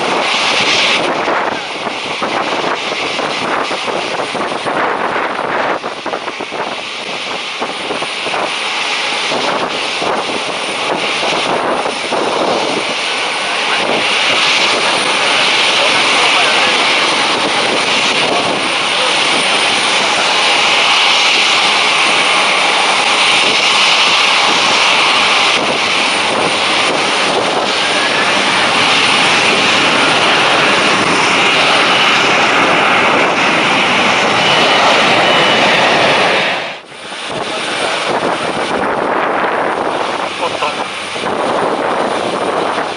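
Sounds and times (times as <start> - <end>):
jet engines rushing and whining: 0.0 - 42.9
wind buffeting microphone: 0.0 - 42.9.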